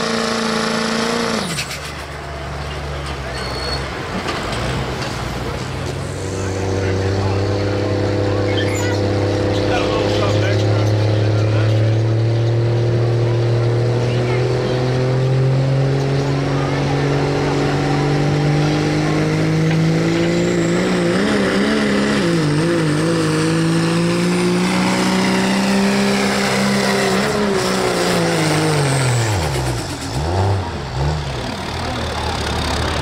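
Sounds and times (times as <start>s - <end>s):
diesel pickup engine at full throttle: 0.0s - 33.0s
high turbo whine: 5.8s - 33.0s.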